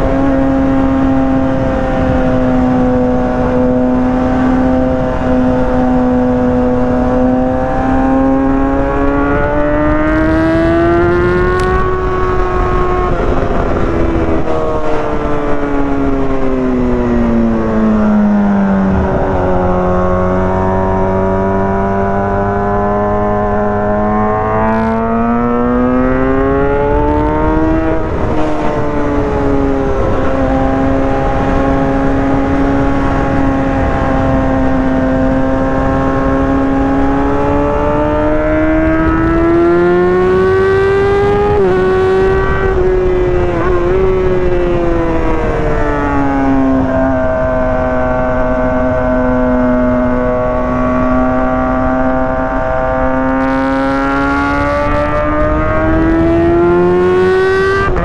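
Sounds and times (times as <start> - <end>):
motorcycle engine running: 0.0 - 58.0
steady rushing noise: 0.0 - 58.0.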